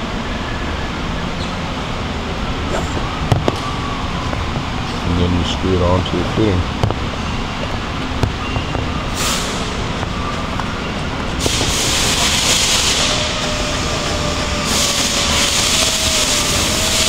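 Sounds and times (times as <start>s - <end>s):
loud rushing hiss: 0.0s - 17.0s
low machinery rumble: 0.0s - 17.0s.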